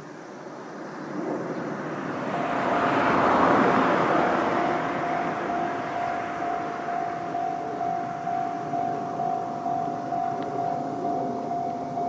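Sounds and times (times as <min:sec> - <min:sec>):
vehicle passing by: 0:01.5 - 0:12.0
thin high tone: 0:02.2 - 0:12.0.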